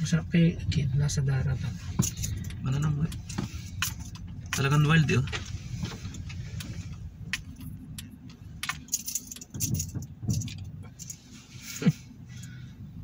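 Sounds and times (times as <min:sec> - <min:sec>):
car engine humming: 0:00.0 - 0:13.0
light clicks and jingles: 0:01.4 - 0:12.6.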